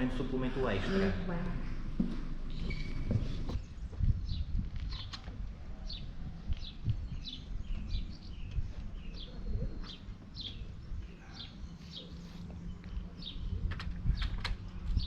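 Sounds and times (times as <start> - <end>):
low rumble: 0.0 - 15.0
small birds chirping: 2.5 - 15.0.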